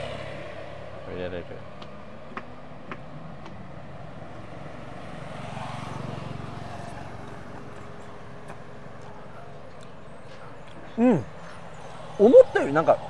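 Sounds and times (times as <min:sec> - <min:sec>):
vehicle engine passing by: 0:00.0 - 0:01.8, 0:04.2 - 0:13.0.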